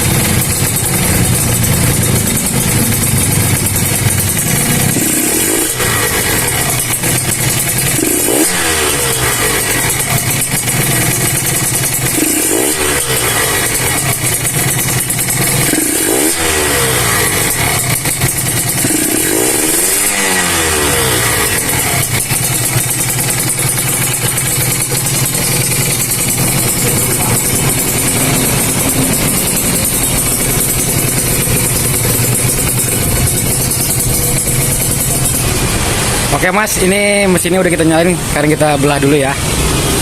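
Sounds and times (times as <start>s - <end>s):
engine throttle blips: 0.0s - 40.0s
two-stroke engine running: 0.0s - 40.0s.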